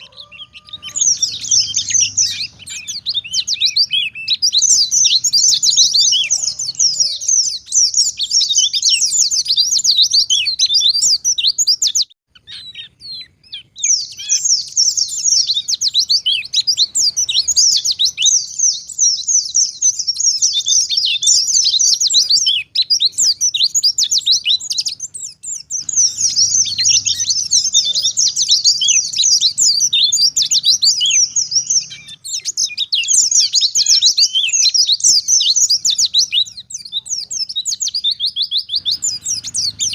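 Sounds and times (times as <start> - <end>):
bird chattering warble: 0.0 - 39.9.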